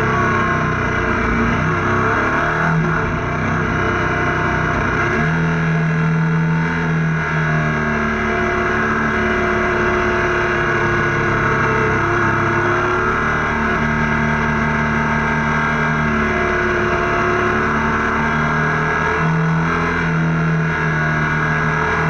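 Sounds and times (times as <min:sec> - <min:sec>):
motorcycle engine cruising: 0:00.0 - 0:22.0
road noise: 0:00.0 - 0:22.0.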